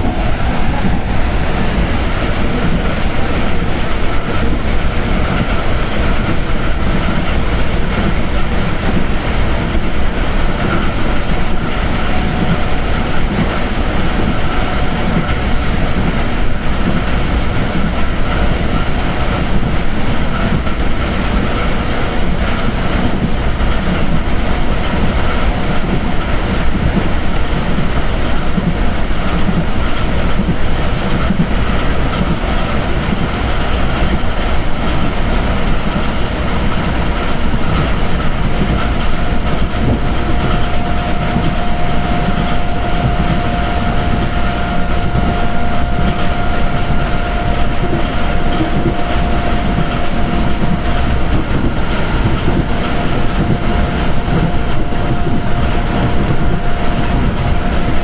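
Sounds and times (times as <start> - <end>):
train carriage rumbling and rattling: 0.0 - 58.0
wheels clacking over rail joints: 0.0 - 58.0.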